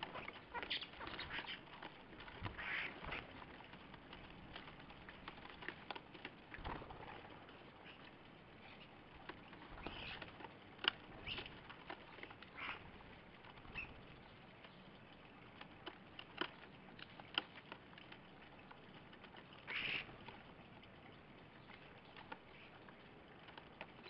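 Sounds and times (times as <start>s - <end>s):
birds pecking on wooden tray: 0.0s - 20.6s.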